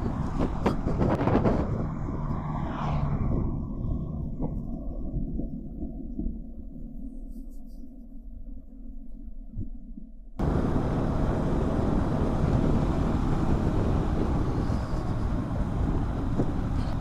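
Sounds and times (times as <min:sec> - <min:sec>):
muffled low rumble: 0:00.0 - 0:17.0
wind and road noise: 0:00.0 - 0:17.0.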